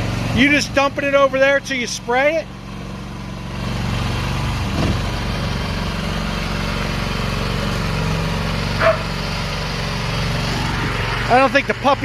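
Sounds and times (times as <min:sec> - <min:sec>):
skid steer engine running: 0:00.0 - 0:12.0.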